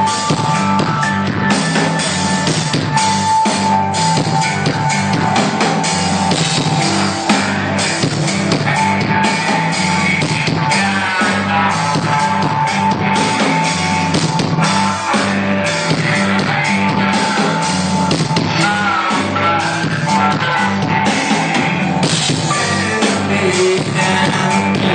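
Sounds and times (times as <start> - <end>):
drum kit beat: 0.0 - 24.9
electric guitars: 0.0 - 24.9.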